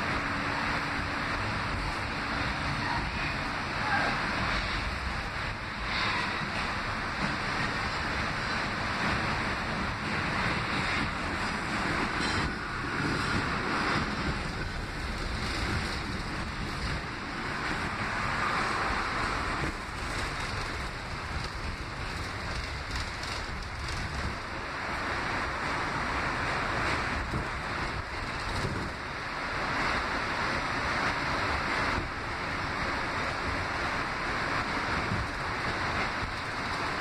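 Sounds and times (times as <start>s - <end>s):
subway wheels rushing on rail: 0.0s - 37.0s.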